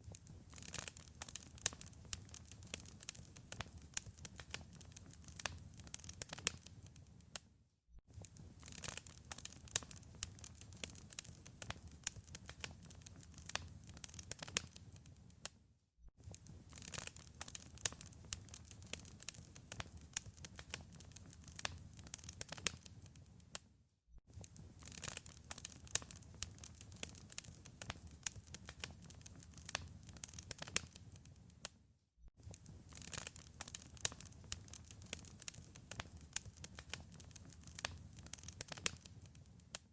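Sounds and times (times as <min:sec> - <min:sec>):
fire crackling and popping: 0:00.0 - 0:07.4, 0:08.1 - 0:15.5, 0:16.2 - 0:23.6, 0:24.3 - 0:31.7, 0:32.4 - 0:39.9
low noise of flames: 0:00.0 - 0:07.4, 0:08.1 - 0:15.5, 0:16.2 - 0:23.6, 0:24.3 - 0:31.7, 0:32.4 - 0:39.9.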